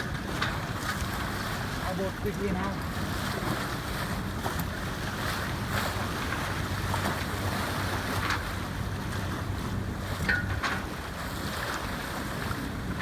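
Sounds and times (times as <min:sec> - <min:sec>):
sea water rushing along hull: 0:00.0 - 0:13.0.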